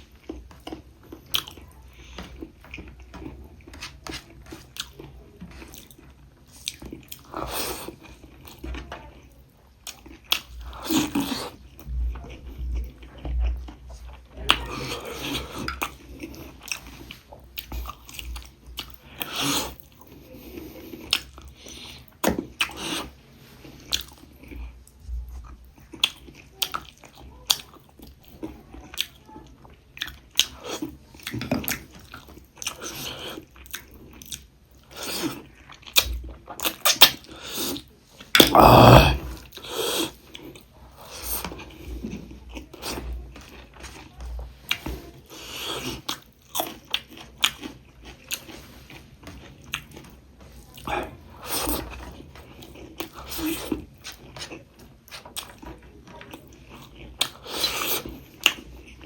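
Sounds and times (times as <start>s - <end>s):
person chewing food: 0.0s - 29.2s, 30.0s - 59.0s.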